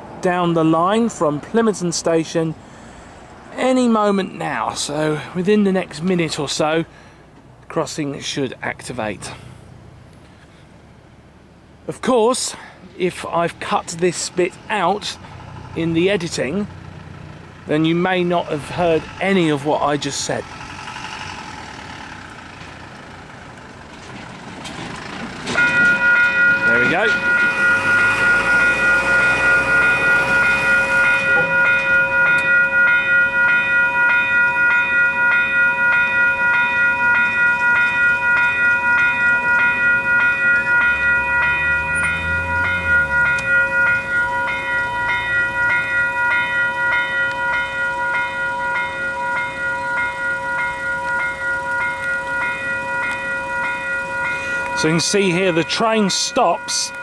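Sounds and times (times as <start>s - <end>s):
level crossing bells ringing: 0.0s - 2.5s, 3.6s - 6.8s, 12.0s - 23.4s, 25.4s - 57.0s.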